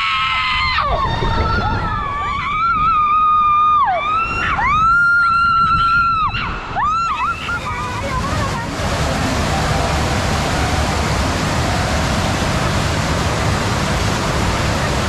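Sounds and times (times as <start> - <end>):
people screaming: 0.0 - 12.8
water rushing: 0.9 - 15.0.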